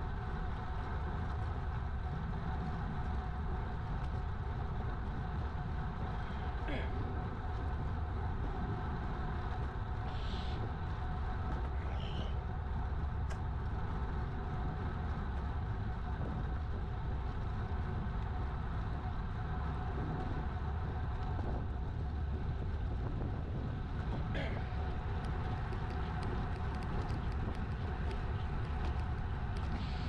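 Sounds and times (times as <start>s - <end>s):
tyres rolling on asphalt: 0.0s - 30.0s
wind rumble on microphone: 0.0s - 30.0s.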